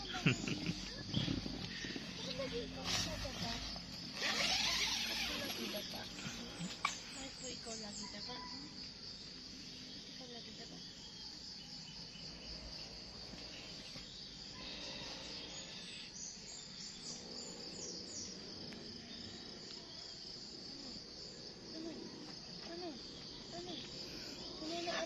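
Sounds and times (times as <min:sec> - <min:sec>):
insect trilling drone: 0:00.0 - 0:25.0.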